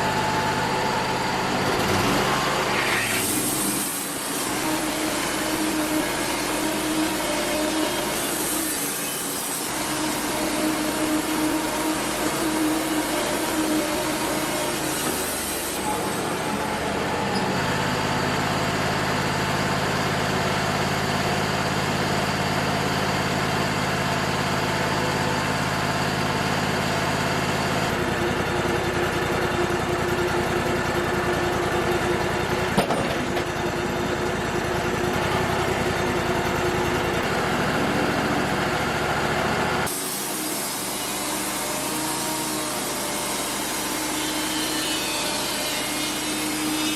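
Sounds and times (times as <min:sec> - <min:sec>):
sawmill engine running: 0:00.0 - 0:46.9.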